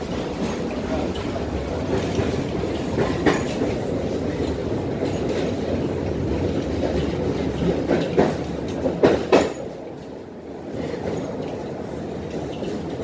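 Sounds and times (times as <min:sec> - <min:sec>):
tram wheels rumbling: 0:00.0 - 0:13.0
wheels clacking on rails: 0:00.0 - 0:13.0.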